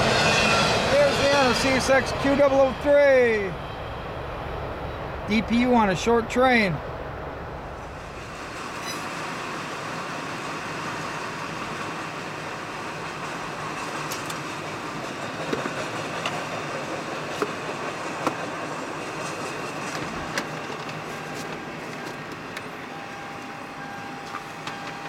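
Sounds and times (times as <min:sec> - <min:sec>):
freight train wheels rumbling on rail: 0:00.0 - 0:25.0.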